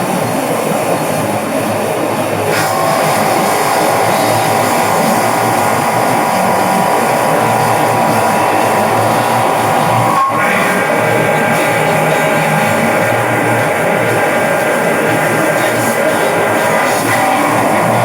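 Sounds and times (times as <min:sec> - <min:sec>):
milling machine noise: 0:00.0 - 0:18.0
sustained machine whine: 0:00.0 - 0:18.0.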